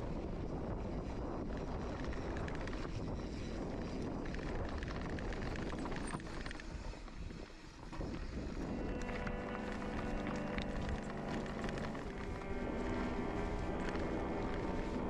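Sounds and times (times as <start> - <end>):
bike tyres rolling on dirt: 0.0 - 15.0
wind buffeting microphone: 0.0 - 15.0
small clicks and rattles: 1.1 - 15.0.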